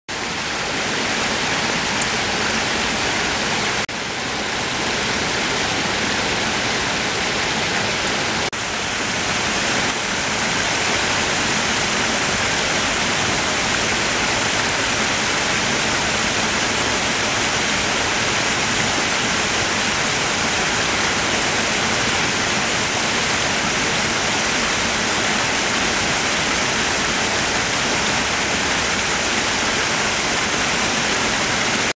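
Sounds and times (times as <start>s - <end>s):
waterfall rushing over rock: 0.1s - 31.9s.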